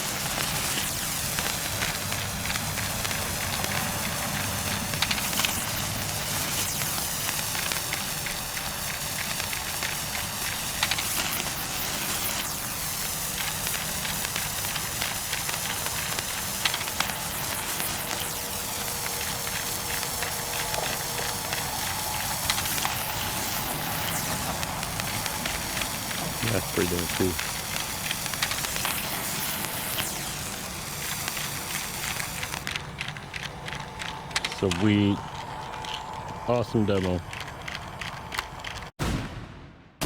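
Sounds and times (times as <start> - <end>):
sharp firework pops: 0.0 - 32.7, 39.0 - 40.0
sparklers fizzing and crackling: 0.0 - 39.2.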